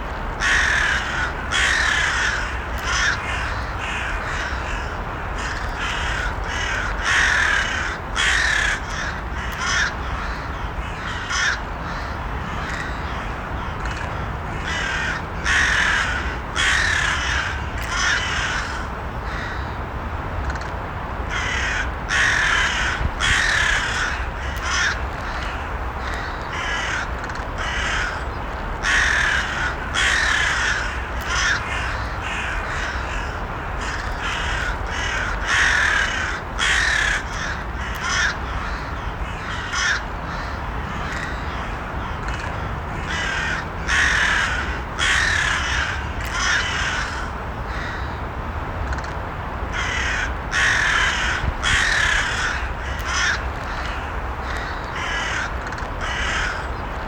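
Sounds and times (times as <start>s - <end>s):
low background noise: 0.0s - 57.0s
crows cawing: 0.4s - 19.8s, 21.3s - 48.2s, 49.7s - 57.0s.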